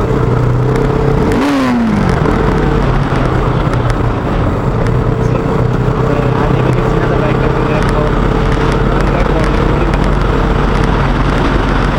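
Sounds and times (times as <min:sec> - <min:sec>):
motorcycle engine running: 0:00.0 - 0:11.9
wind noise on camera: 0:00.0 - 0:11.9.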